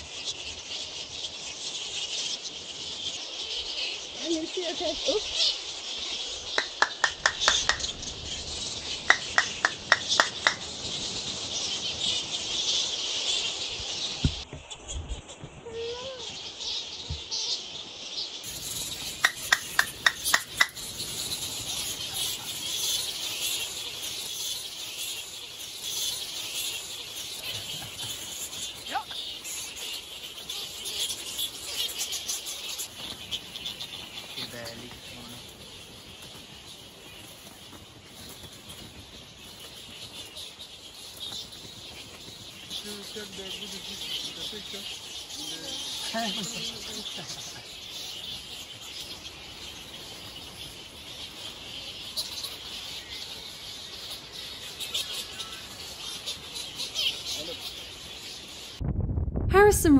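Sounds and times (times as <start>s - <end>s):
fruit bats squeaking and chattering: 0.0s - 58.8s.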